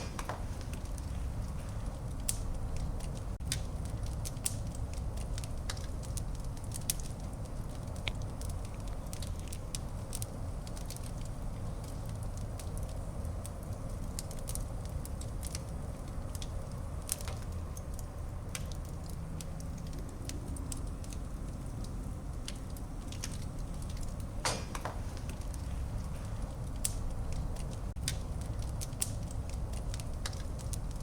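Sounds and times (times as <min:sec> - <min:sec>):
fire crackling and popping: 0:00.0 - 0:31.0
fire flames rumbling: 0:00.0 - 0:31.0.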